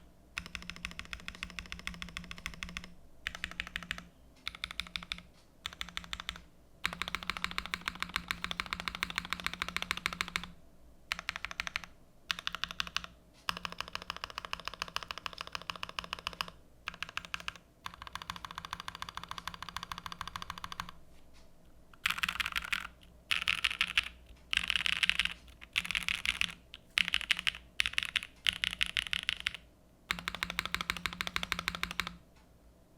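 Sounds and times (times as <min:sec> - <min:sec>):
mechanical keyboard typing: 0:00.4 - 0:10.5, 0:11.1 - 0:21.0, 0:22.0 - 0:32.2.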